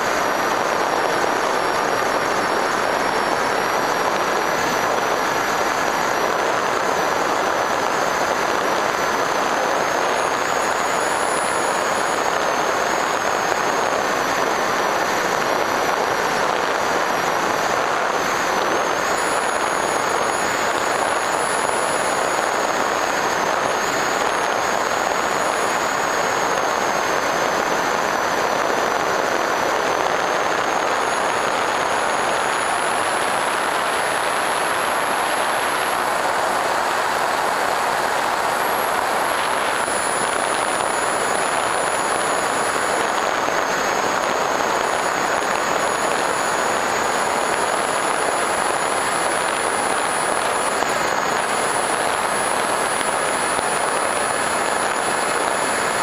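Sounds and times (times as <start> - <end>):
propeller noise with motor whine: 0.0 - 56.0.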